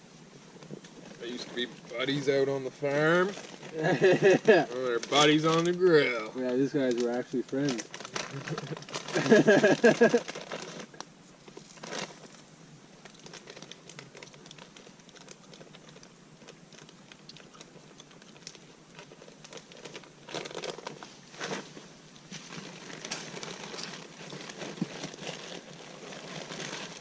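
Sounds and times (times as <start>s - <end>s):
campfire crackling: 0.0s - 27.0s.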